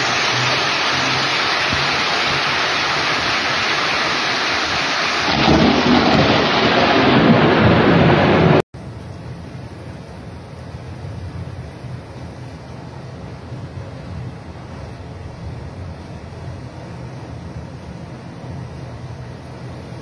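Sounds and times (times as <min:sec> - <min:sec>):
heavy rain falling: 0:00.0 - 0:20.0
thunder rumbling: 0:00.0 - 0:20.0.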